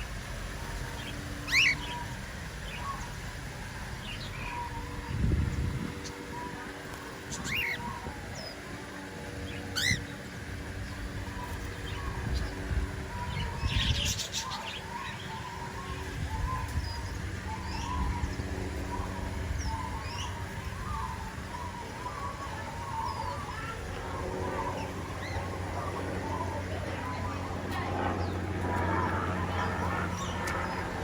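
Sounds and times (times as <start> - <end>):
birds chirping and twittering: 0.0 - 31.0
harsh bird calls: 0.0 - 31.0.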